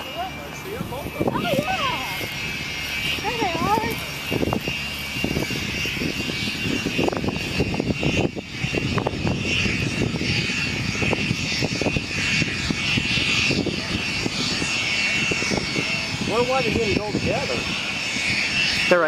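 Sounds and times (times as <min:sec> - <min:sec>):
jet engine whine: 0:00.0 - 0:19.0
wind rumble on microphone: 0:00.0 - 0:19.0.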